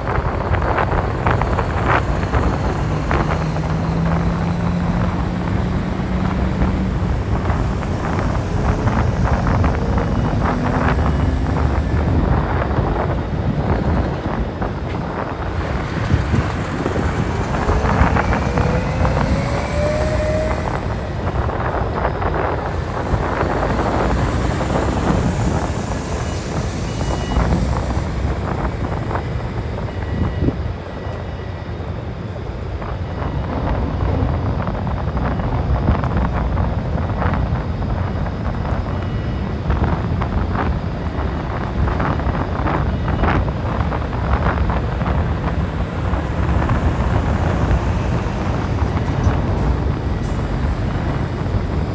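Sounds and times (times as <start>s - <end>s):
engine whine rising: 0.0s - 51.9s
heavy trucks rumbling: 0.0s - 51.9s
wind buffeting microphone: 0.0s - 51.9s.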